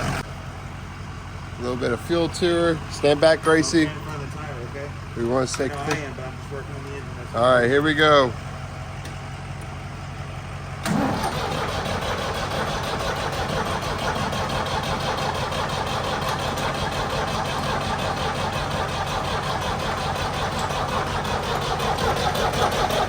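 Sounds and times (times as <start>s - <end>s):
diesel tractor engine running: 0.0s - 23.0s.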